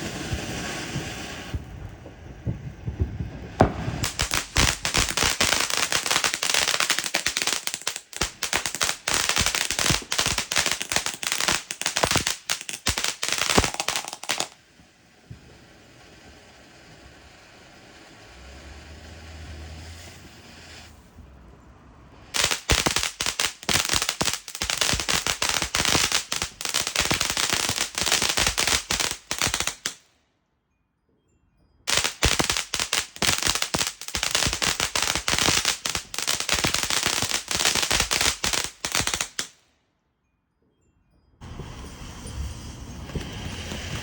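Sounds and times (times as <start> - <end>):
firecrackers crackling: 0.0 - 30.0, 31.9 - 39.6, 41.4 - 44.0.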